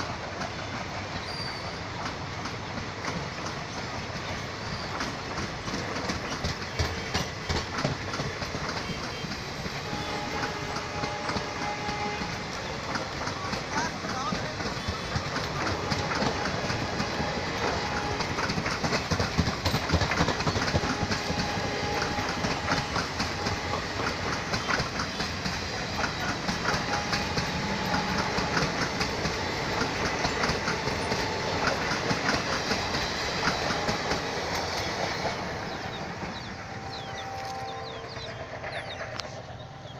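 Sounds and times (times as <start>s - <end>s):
train rumble: 0.0s - 39.9s
train wheels clicking over joints: 0.0s - 39.9s.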